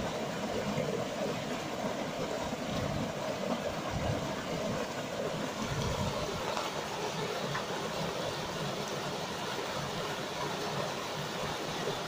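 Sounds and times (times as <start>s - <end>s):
stream rushing over boulders: 0.0s - 12.0s.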